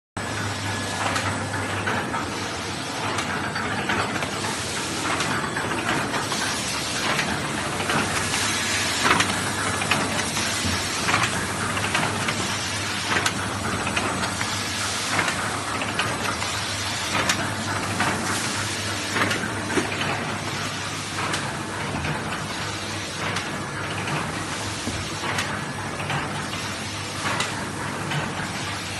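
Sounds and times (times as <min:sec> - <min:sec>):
carton machine clattering: 0:00.2 - 0:28.9
machine hum: 0:00.2 - 0:28.9.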